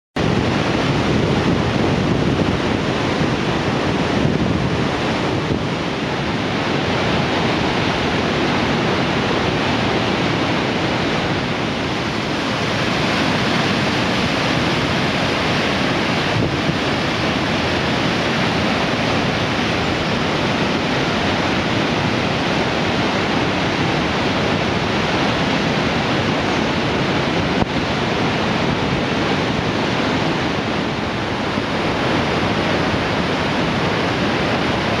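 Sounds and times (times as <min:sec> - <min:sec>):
river rapids rushing: 0:00.2 - 0:35.0.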